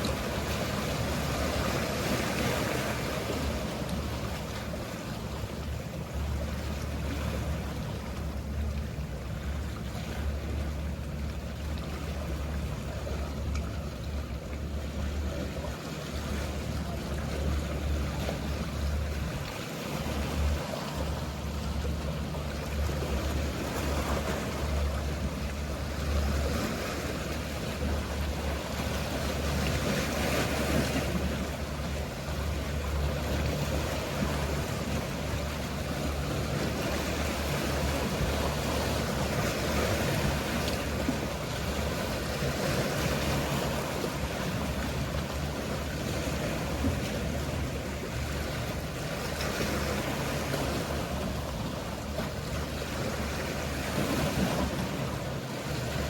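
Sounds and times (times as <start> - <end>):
boat engine hum: 0.0 - 56.0
sea waves washing in: 0.0 - 56.0.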